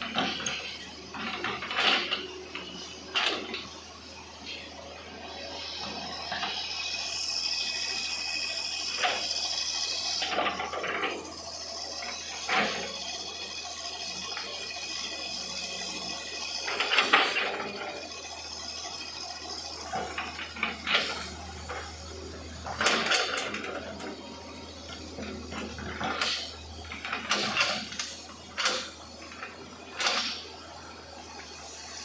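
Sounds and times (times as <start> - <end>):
excavator engine and hydraulic hiss: 0.0 - 32.0.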